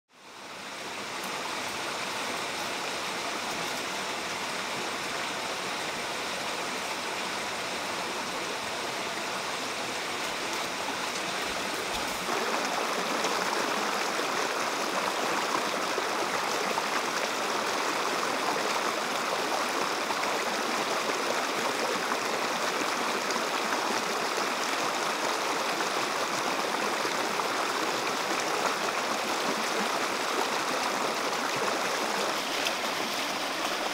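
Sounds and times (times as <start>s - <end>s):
river rushing over rocks: 0.3s - 33.9s.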